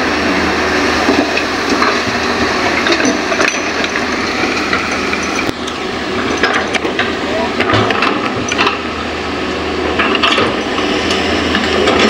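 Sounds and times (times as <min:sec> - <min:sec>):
excavator diesel engine under load: 0:00.0 - 0:12.0.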